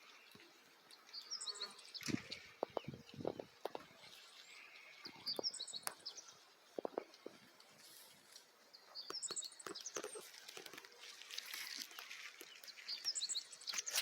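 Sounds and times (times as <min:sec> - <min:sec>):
birds singing: 0:00.0 - 0:07.4, 0:08.6 - 0:14.0.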